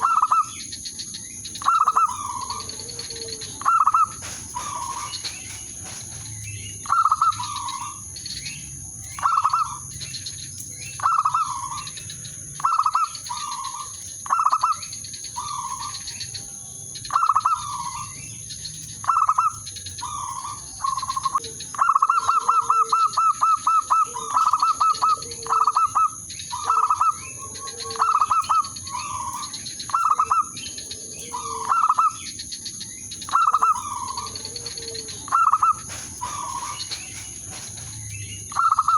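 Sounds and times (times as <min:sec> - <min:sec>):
dove cooing: 0:01.6 - 0:10.3, 0:10.9 - 0:16.5, 0:17.1 - 0:18.3, 0:19.0 - 0:32.5, 0:33.3 - 0:38.9.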